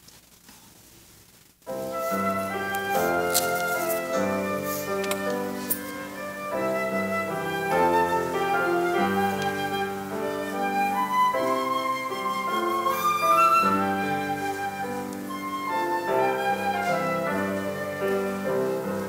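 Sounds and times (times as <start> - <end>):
flute-like melody: 1.7 - 19.0
piano accompaniment: 1.7 - 19.0.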